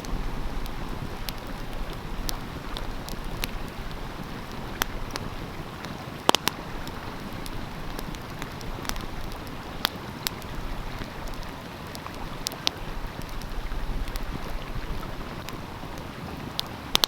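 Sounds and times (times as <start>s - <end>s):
stream flowing: 0.0s - 17.0s
wood fire crackling and popping: 0.0s - 17.0s.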